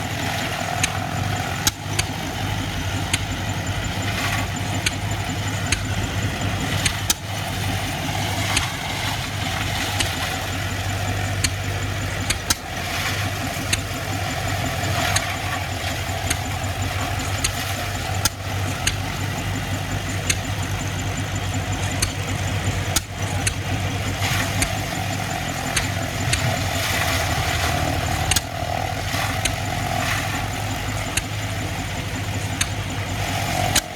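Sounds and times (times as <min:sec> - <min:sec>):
machinery clicks and knocks: 0:00.0 - 0:33.9
tractor engine running: 0:00.0 - 0:33.9.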